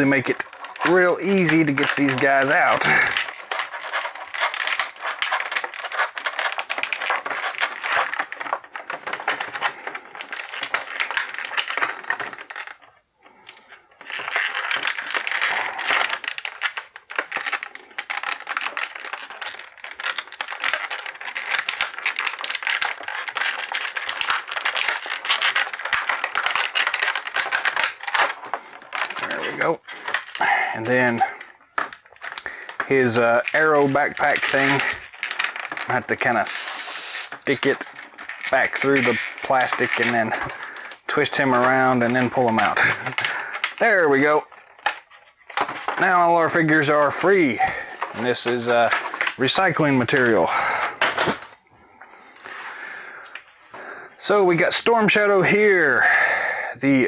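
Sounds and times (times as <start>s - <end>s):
plastic packaging crinkling: 0.0s - 56.0s.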